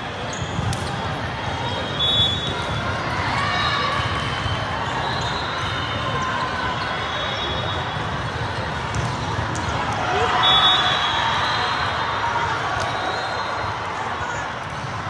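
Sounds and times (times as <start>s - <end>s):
many voices: 0.0s - 15.0s
volleyballs bouncing on court floor: 0.2s - 1.4s, 2.0s - 10.5s, 12.5s - 15.0s.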